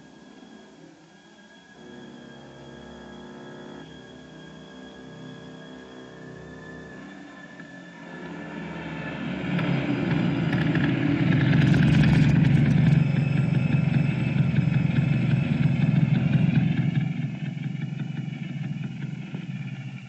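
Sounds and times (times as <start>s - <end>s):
small car engine passing: 1.5s - 20.0s.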